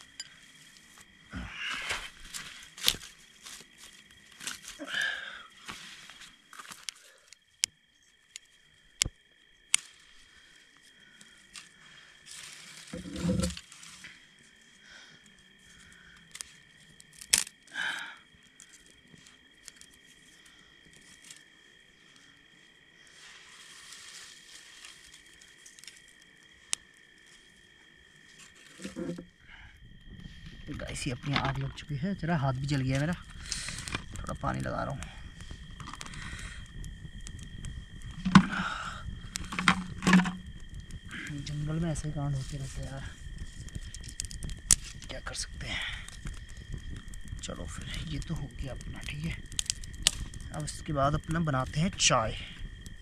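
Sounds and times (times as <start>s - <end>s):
night insects chirring: 0.0s - 53.0s
twigs crackling in fire: 0.0s - 53.0s
twigs rustling: 0.0s - 53.0s.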